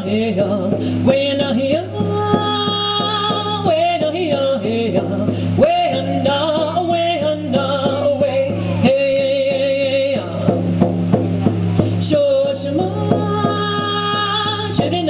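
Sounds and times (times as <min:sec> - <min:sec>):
woman singing: 0:00.0 - 0:10.6, 0:11.9 - 0:15.0
frame drum beat: 0:00.0 - 0:15.0.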